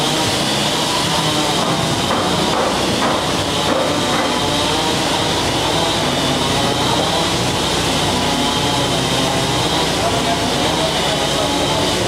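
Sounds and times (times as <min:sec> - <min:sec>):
power machine whining: 0:00.0 - 0:12.0.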